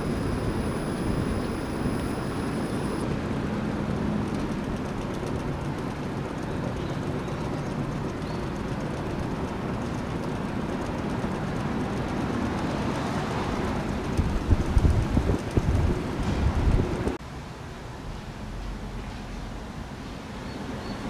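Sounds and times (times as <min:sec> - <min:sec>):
air conditioner fan running: 0:00.0 - 0:21.0.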